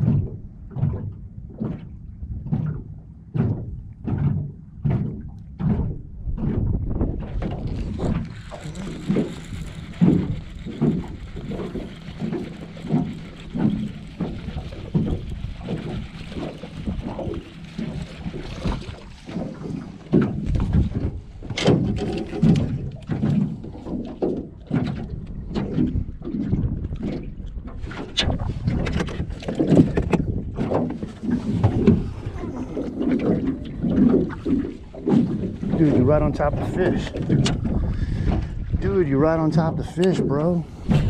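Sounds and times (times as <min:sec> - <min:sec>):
waves slapping boat hull: 0:00.0 - 0:41.0
wind on microphone: 0:00.0 - 0:41.0.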